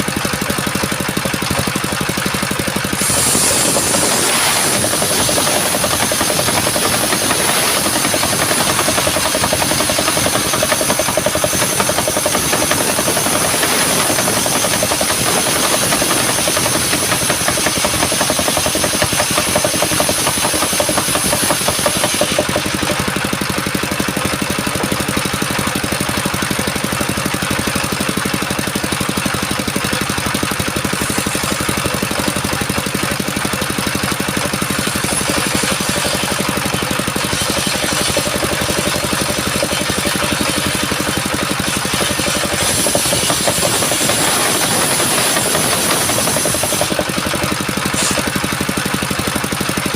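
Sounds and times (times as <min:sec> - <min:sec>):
engine running: 0:00.0 - 0:49.9
saw blade cutting log: 0:00.9 - 0:49.8.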